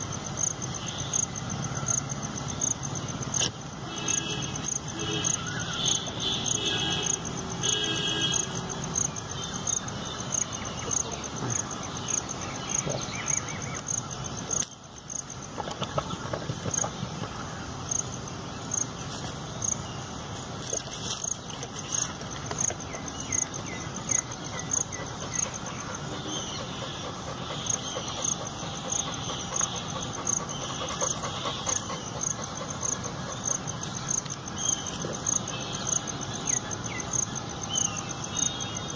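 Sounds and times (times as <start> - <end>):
insect chirping: 0.0 - 38.9.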